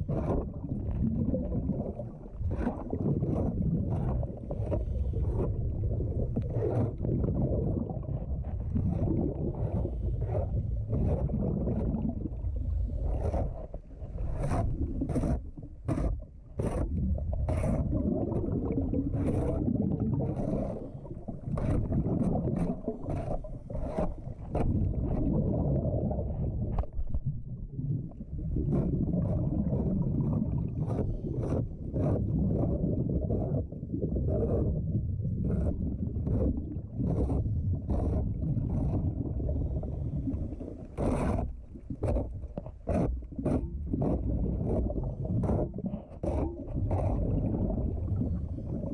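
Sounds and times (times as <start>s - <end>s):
underwater air bubbles rumbling: 0.0s - 48.9s.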